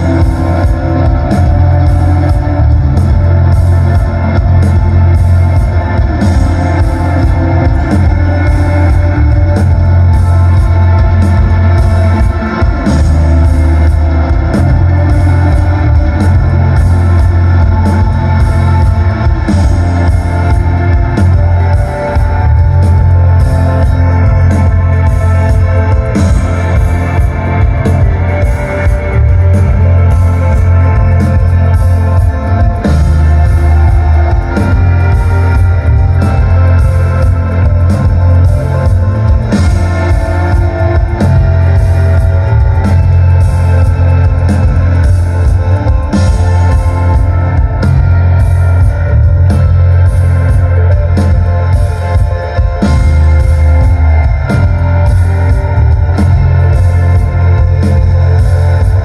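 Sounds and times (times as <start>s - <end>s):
bass guitar: 0.0s - 59.0s
live rock band playing: 0.0s - 59.0s.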